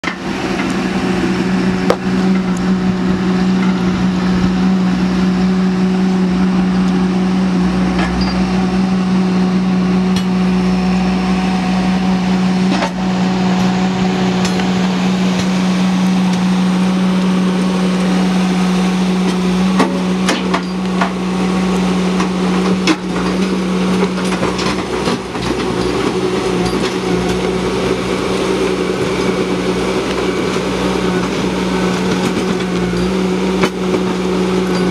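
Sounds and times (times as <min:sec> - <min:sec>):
skid steer engine running: 0:00.0 - 0:34.9.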